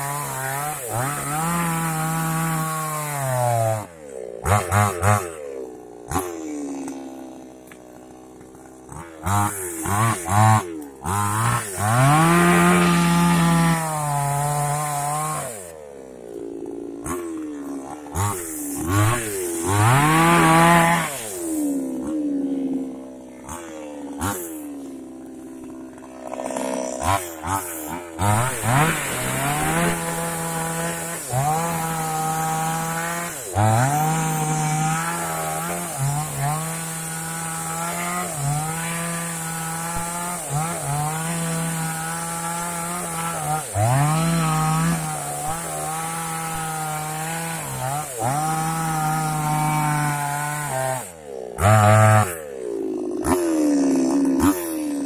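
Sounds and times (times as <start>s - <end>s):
chainsaw engine cutting wood: 0.0s - 55.0s.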